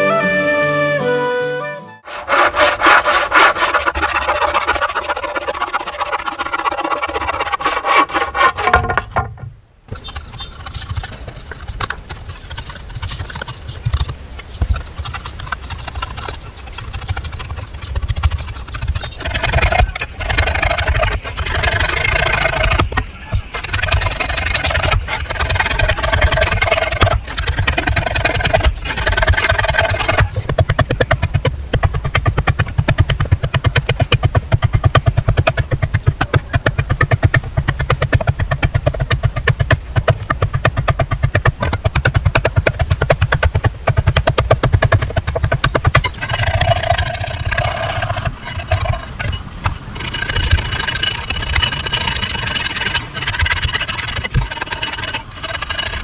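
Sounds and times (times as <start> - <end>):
hand saw cutting wood: 2.0 - 13.6, 14.9 - 56.0.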